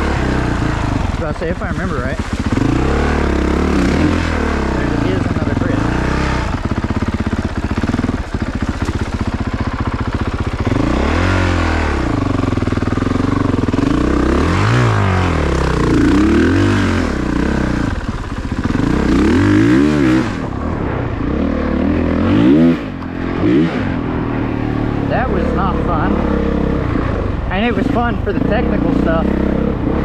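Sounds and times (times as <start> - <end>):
motorcycle engine revving in blips: 0.0 - 30.0.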